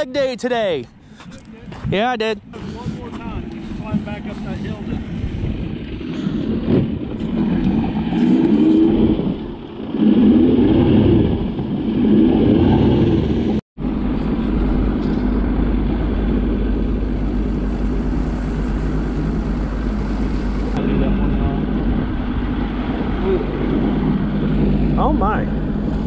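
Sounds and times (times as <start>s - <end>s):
wind: 0.0s - 26.0s
water noise: 1.0s - 26.0s
outboard motor running: 2.5s - 26.0s.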